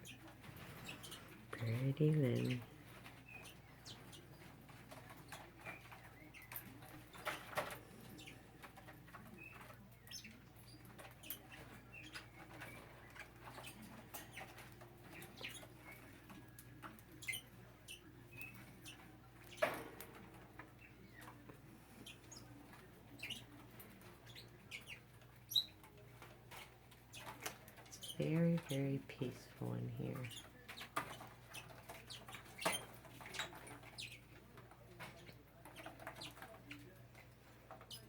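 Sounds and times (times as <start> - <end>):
parakeets chirping softly: 0.0 - 38.0.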